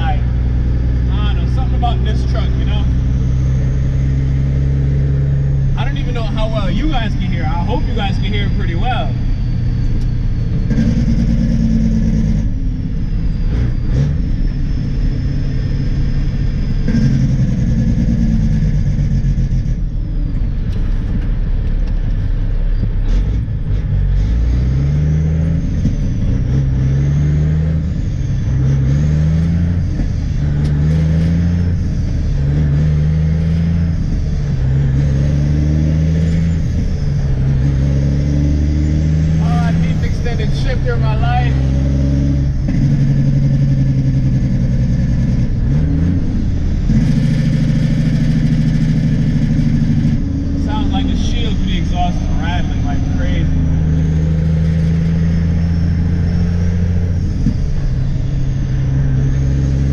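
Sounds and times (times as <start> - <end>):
diesel truck engine revving: 0.0 - 59.9.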